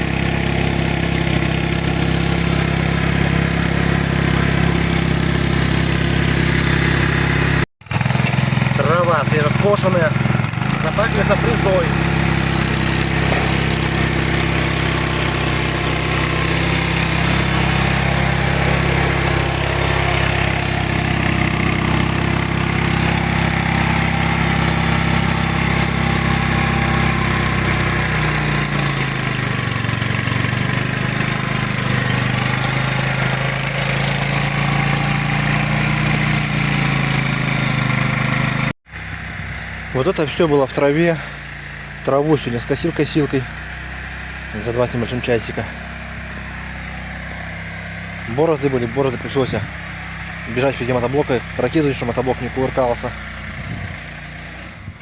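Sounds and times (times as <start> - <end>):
engine running under load: 0.0 - 55.0
rotary tiller churning soil: 0.0 - 55.0.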